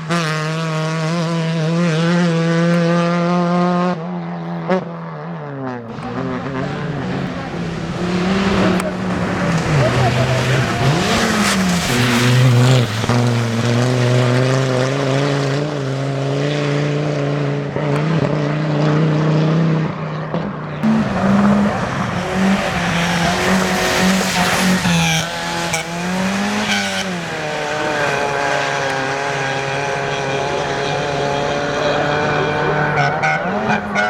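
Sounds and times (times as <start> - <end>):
rally car engine running hard: 0.0 - 34.0.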